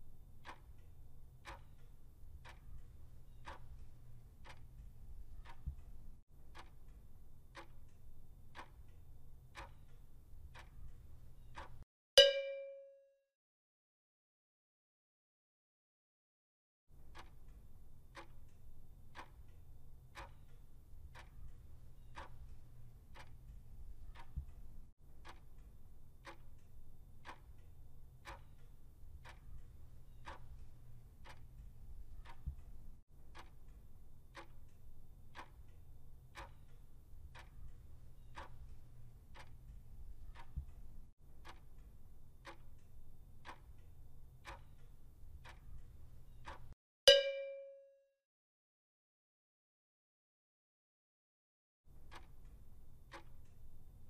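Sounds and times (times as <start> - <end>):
clock ticking: 0.4 - 12.9, 17.0 - 47.6, 51.9 - 54.0.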